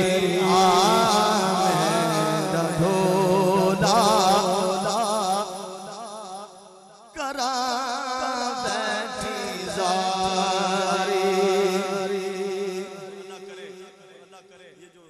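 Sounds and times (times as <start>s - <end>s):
man singing with vibrato: 0.0s - 15.0s.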